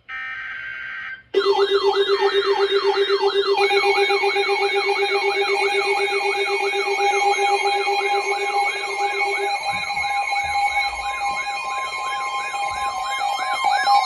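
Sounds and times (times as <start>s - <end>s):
electronic siren alert tone: 0.1s - 14.0s.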